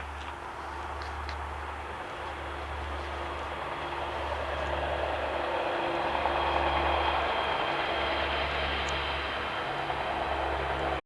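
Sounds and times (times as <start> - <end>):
campfire roaring: 0.0 - 11.0.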